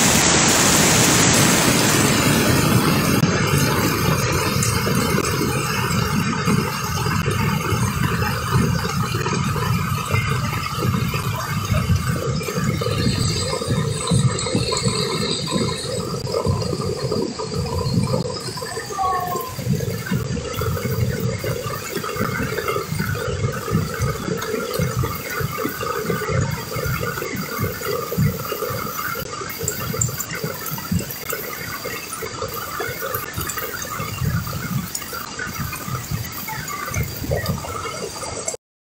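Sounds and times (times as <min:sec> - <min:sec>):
rushing floodwater roar: 0:00.0 - 0:38.6.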